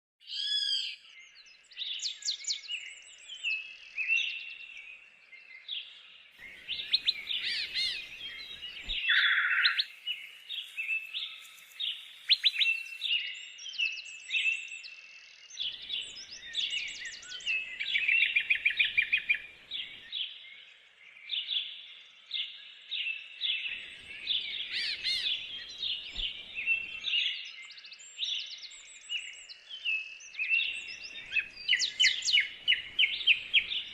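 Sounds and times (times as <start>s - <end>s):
songbirds singing and chirping: 0.2s - 33.9s.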